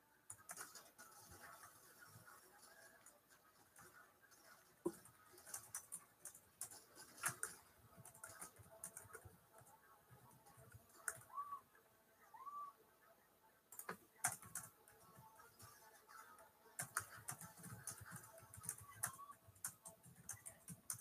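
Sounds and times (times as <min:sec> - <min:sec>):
faint keyboard typing: 0:00.2 - 0:11.5, 0:13.7 - 0:21.0.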